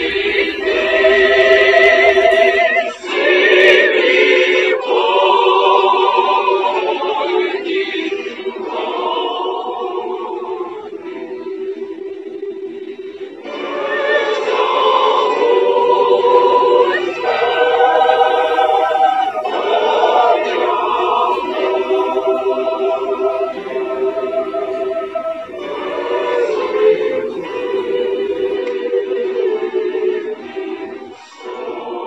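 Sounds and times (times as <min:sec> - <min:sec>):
choir singing held chords: 0:00.0 - 0:32.0.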